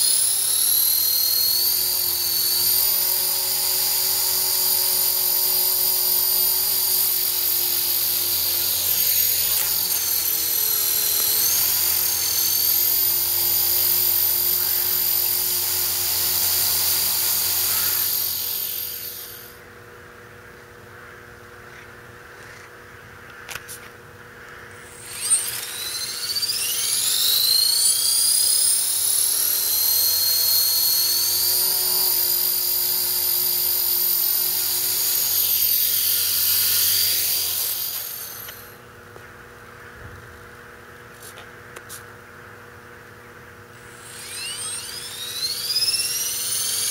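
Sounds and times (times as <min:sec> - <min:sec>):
rc helicopter motor whine: 0:00.0 - 0:19.7, 0:23.3 - 0:38.9, 0:43.6 - 0:46.9.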